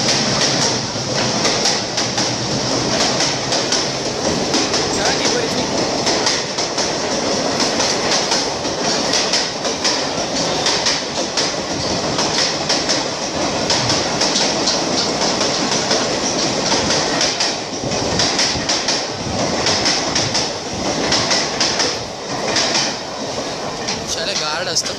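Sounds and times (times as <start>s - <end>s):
train coaches rattling: 0.0s - 24.9s
wheels clacking over rail joints: 0.0s - 24.9s.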